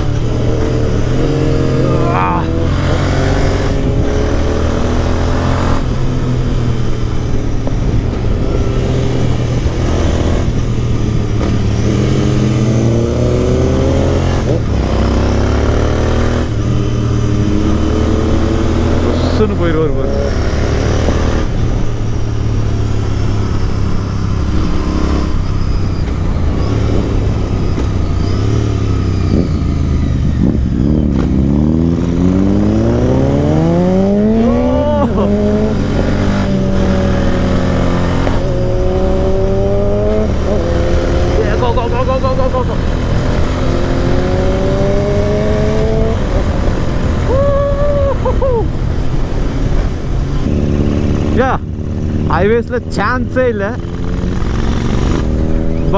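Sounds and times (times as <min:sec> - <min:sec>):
heavy wind rumble: 0:00.0 - 0:55.9
motorcycle engine at speed: 0:00.0 - 0:55.9.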